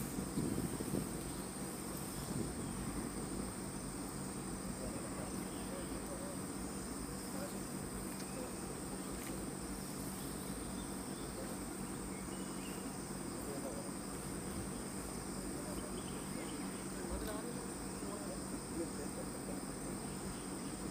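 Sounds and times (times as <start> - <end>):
insects trilling: 0.0 - 20.9.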